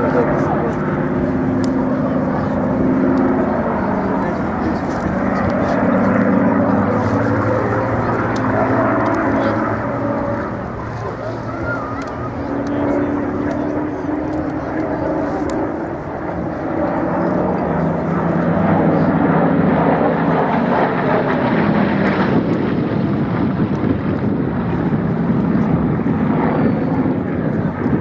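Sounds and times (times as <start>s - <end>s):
propeller aircraft engine drone: 0.0s - 28.0s.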